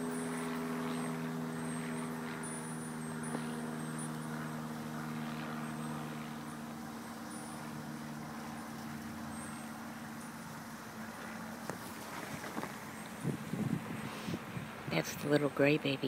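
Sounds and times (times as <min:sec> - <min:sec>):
steady motor hum: 0:00.0 - 0:16.0.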